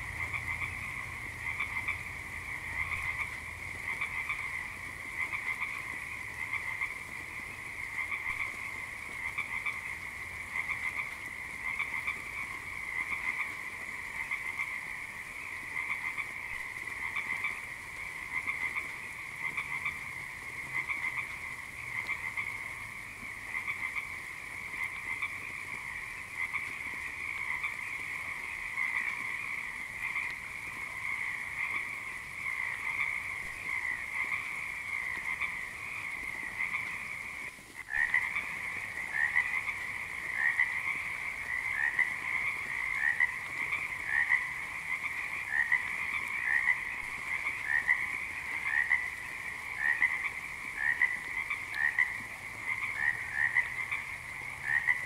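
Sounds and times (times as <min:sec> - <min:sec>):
frogs croaking: 0:00.0 - 0:55.0.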